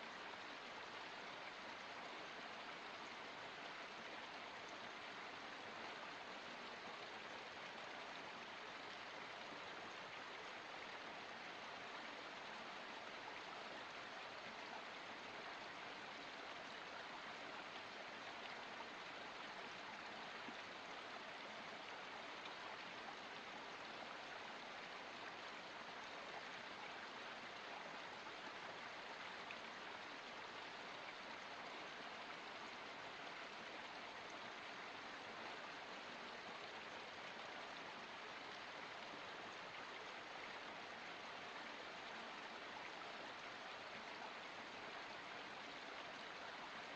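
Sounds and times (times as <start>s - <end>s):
stream flowing: 0.0s - 46.9s.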